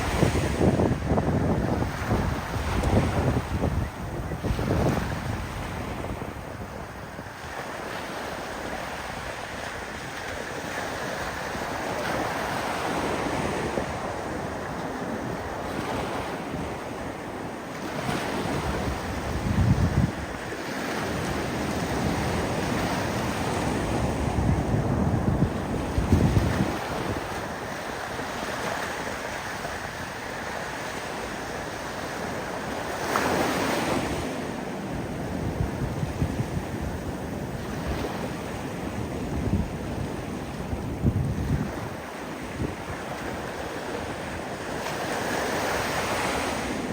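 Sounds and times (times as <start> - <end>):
wind buffeting microphone: 0.0 - 7.8, 8.5 - 46.9
waves breaking and washing in: 0.0 - 46.9.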